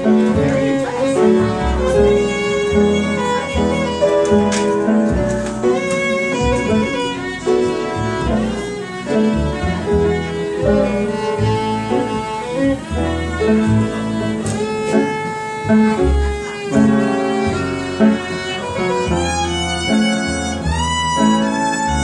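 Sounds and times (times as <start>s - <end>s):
double bass: 0.0s - 22.0s
upright piano: 0.0s - 22.0s
violin melody: 0.0s - 22.0s.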